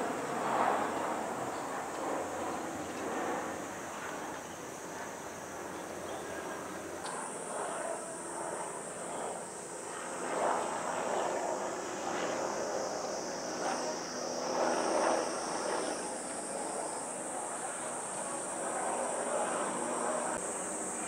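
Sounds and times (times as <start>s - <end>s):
indistinct background noise: 0.0s - 21.0s
insects droning: 0.0s - 21.0s.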